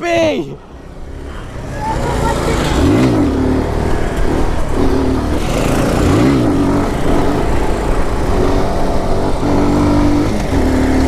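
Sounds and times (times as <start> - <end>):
mini bike engine revving: 1.0 - 11.0.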